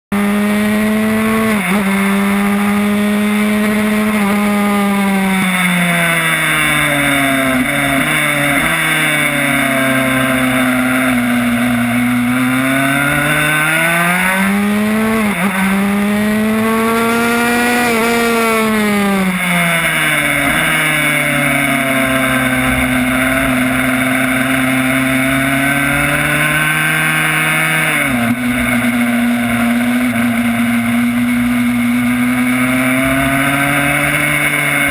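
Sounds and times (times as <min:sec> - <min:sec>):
two-stroke motorcycle engine revving: 0:00.1 - 0:34.9.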